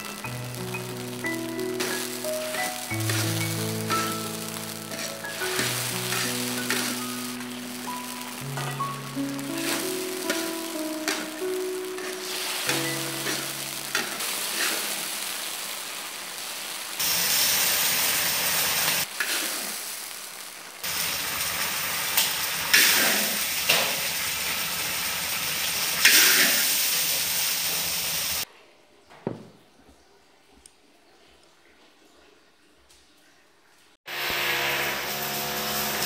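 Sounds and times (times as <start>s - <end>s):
food sizzling in a wok: 0.0s - 28.5s, 34.1s - 36.0s.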